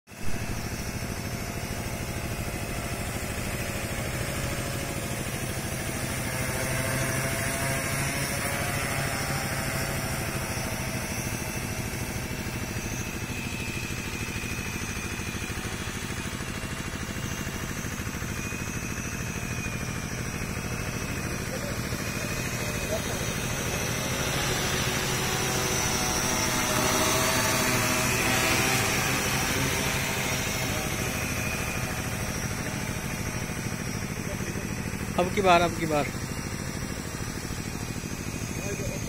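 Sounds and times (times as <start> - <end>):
drone propellers humming: 0.1 - 39.0.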